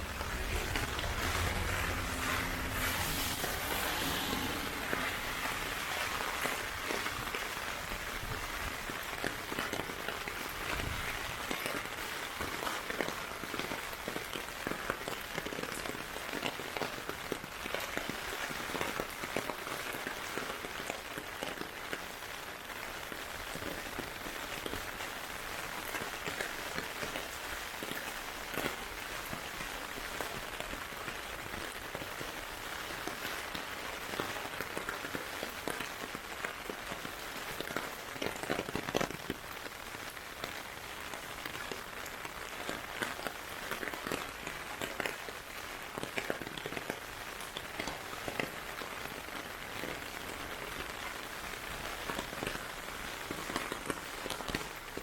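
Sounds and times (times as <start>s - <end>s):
heavy rain falling: 0.0s - 55.0s
raindrops pattering on ground: 0.0s - 55.0s.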